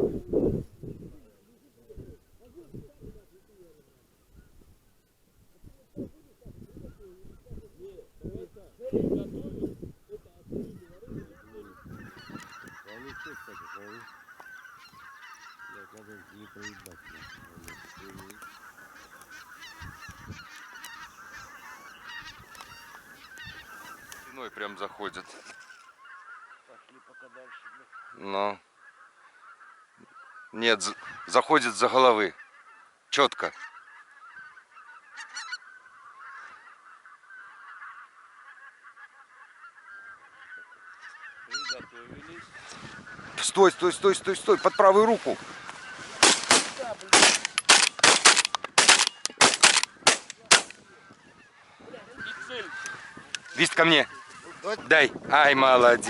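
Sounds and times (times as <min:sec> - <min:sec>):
wild geese honking: 0:06.4 - 0:56.0.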